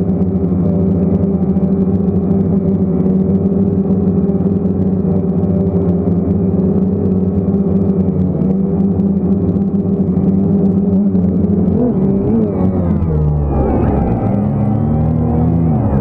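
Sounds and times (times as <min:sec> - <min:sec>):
drone propellers buzzing hum: 0:00.0 - 0:16.0.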